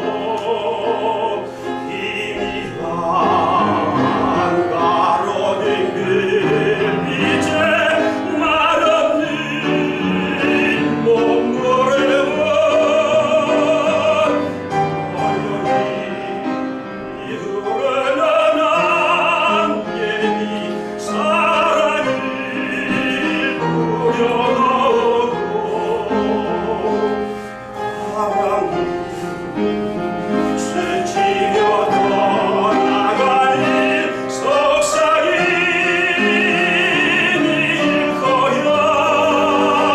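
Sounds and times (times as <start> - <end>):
piano accompaniment: 0.0 - 39.9
tenor singing classical song: 0.0 - 39.9.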